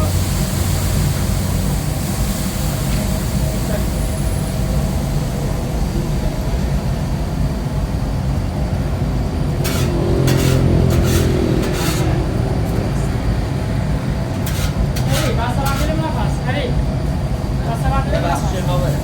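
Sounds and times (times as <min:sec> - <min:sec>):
vehicle engine rumbling: 0:00.0 - 0:17.6.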